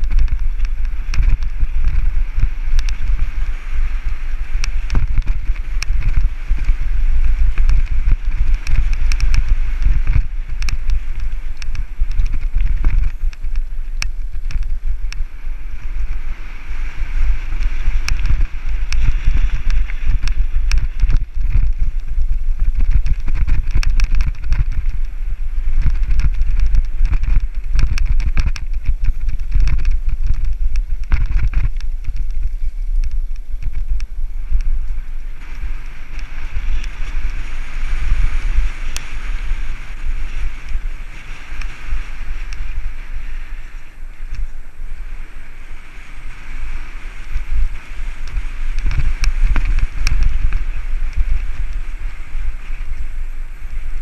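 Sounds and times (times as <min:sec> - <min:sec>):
bike clacking and rattling: 0:00.0 - 0:16.2, 0:17.2 - 0:44.6
bike tyre noise: 0:00.0 - 0:54.0
wind buffeting microphone: 0:00.0 - 0:54.0.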